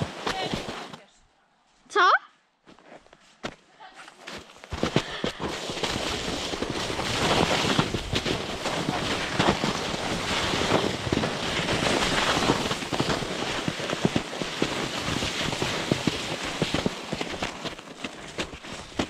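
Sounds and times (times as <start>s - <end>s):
sled crunching and knocking: 0.0s - 1.1s, 4.0s - 19.0s
sled scraping over snow: 0.0s - 1.1s, 4.1s - 19.0s.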